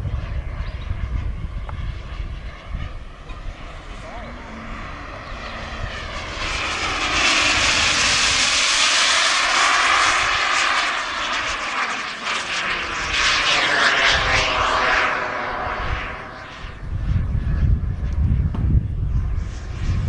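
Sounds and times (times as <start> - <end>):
model jet turbine flying by: 0.0 - 20.0.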